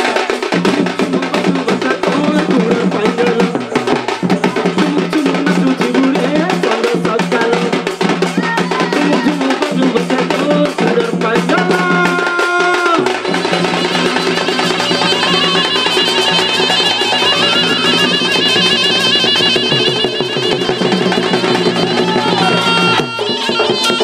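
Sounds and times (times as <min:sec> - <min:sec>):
barrel drum beaten quickly: 0:00.0 - 0:24.0
pitched melody line: 0:00.5 - 0:07.3, 0:09.0 - 0:24.0.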